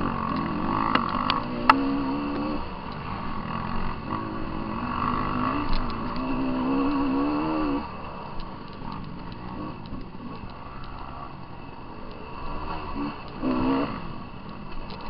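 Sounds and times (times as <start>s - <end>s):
dirt bike engine revving: 0.0s - 15.0s
sharp ticks: 0.0s - 15.0s.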